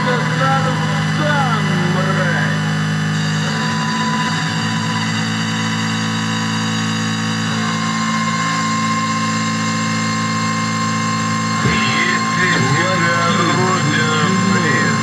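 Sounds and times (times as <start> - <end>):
droning industrial noise music: 0.0 - 15.0
thin high held tone: 0.0 - 15.0.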